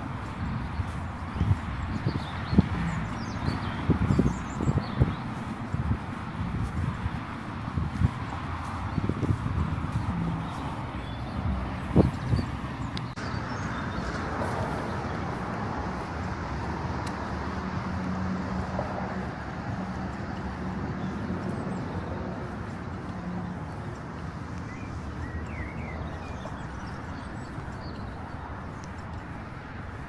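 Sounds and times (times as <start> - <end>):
low engine hum: 0.0 - 30.0
road traffic rushing: 0.0 - 30.0.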